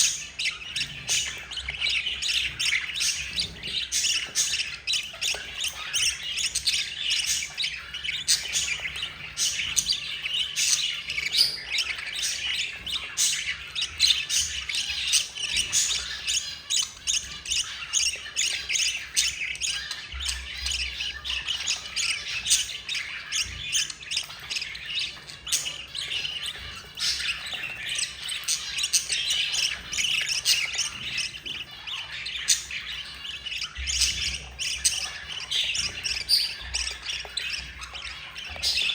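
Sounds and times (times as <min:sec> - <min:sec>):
chicks squawking and chirping: 0:00.0 - 0:38.9.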